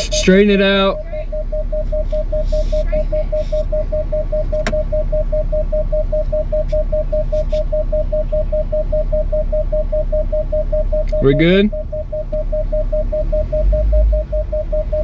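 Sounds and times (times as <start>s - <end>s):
steady low rumble: 0.0s - 15.0s
vehicle warning chime beeping: 0.0s - 15.0s.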